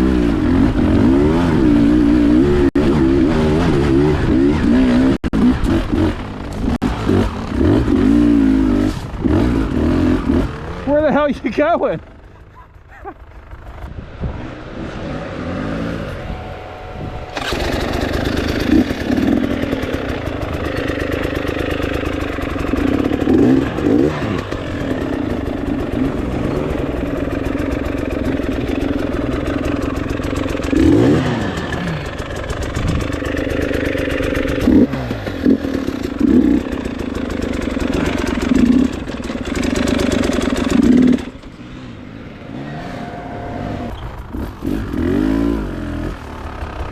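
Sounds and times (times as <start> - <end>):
dirt bike engine revving: 0.0 - 12.3, 14.3 - 46.9.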